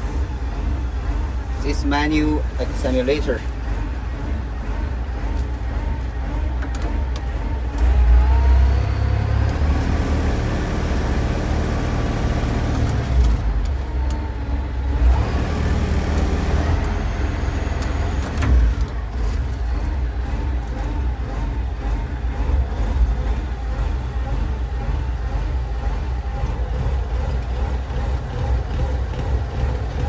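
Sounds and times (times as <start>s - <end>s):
concrete mixer diesel engine revving: 0.0s - 30.0s.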